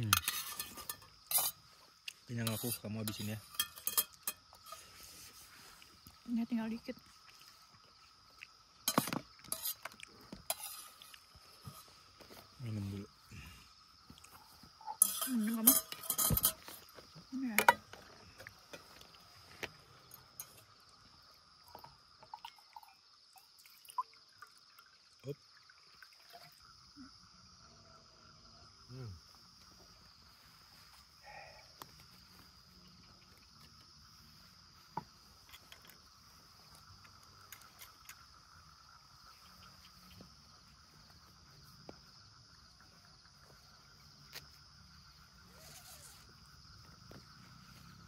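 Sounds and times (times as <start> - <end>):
crickets chirring: 0.0 - 48.0.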